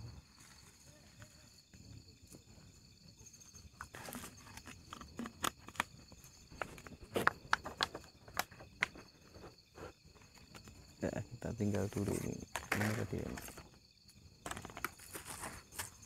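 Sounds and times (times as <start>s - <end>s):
faint insect chirring: 0.0s - 16.0s.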